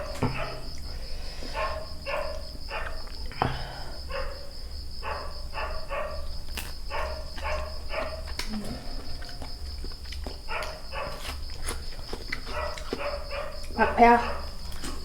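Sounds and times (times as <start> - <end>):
dog barking: 0.0 - 3.2, 4.0 - 9.7, 10.3 - 11.8, 12.4 - 15.0.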